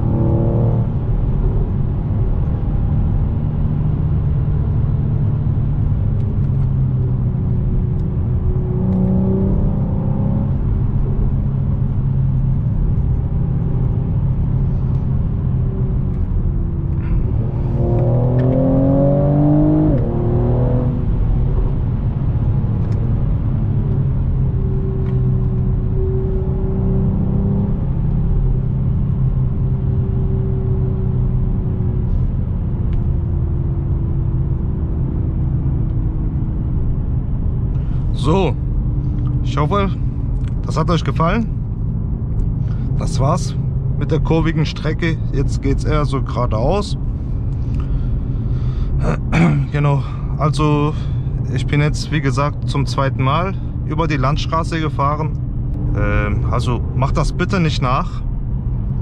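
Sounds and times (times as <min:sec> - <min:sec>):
car engine and exhaust revving: 0:00.0 - 0:59.0.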